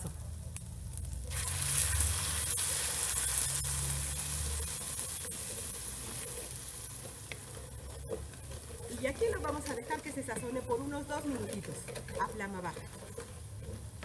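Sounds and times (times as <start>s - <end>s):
salsa sizzling in hot oil: 0.0s - 14.0s.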